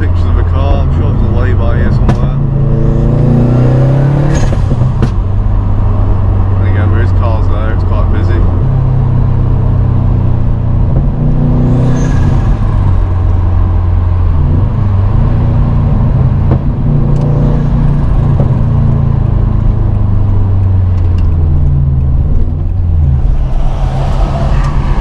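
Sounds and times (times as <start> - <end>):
car engine droning: 0.0 - 25.0
road noise: 0.0 - 25.0.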